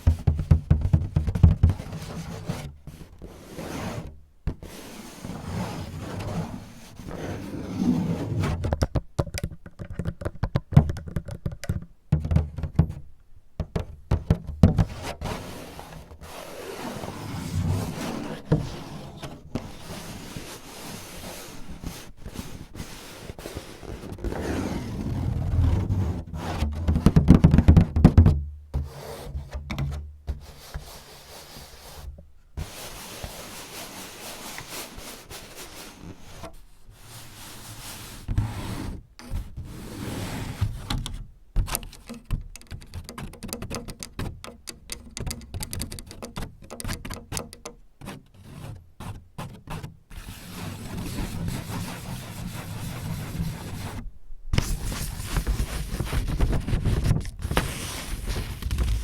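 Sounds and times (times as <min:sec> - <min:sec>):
hands rubbing and scratching surface: 0:00.0 - 0:08.5, 0:14.8 - 0:27.6, 0:30.3 - 0:40.6, 0:42.0 - 0:54.0, 0:54.6 - 0:59.0.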